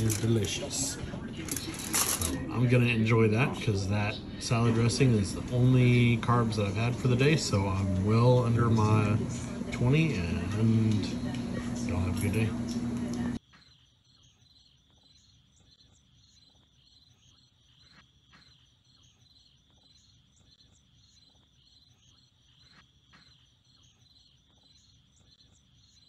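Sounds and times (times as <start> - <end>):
insects chirping: 0.0 - 12.8, 13.4 - 26.0.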